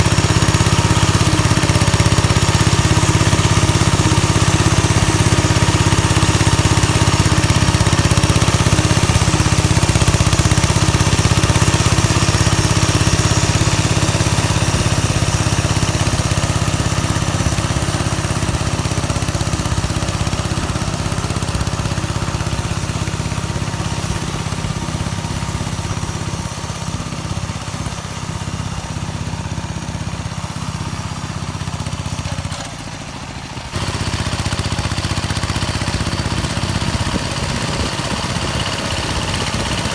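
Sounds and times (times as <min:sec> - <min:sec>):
mini-tractor engine running: 0:00.0 - 0:39.9.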